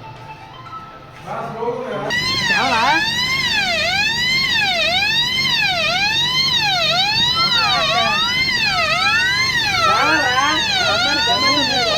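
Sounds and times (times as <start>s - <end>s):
fire alarm siren wailing: 2.1s - 11.9s.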